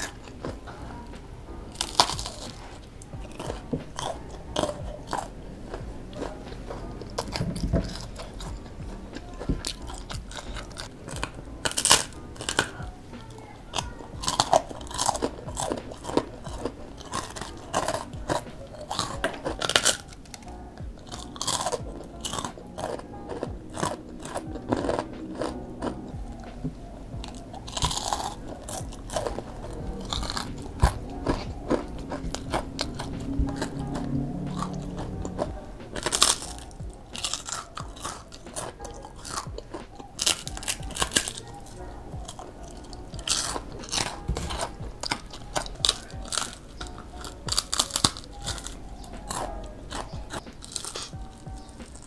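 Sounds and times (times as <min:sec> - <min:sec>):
crunching and chewing fried food: 0:00.0 - 0:52.0.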